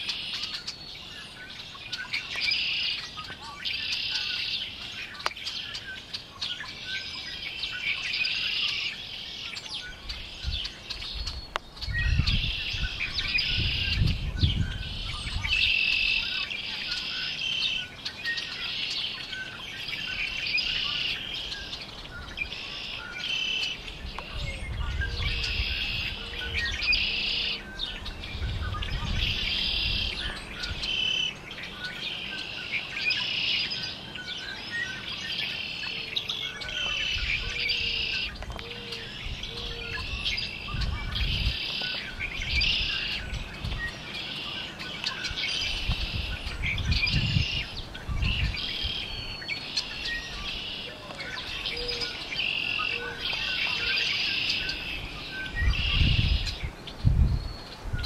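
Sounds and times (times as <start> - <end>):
blackbirds singing and chattering: 0.0 - 58.0.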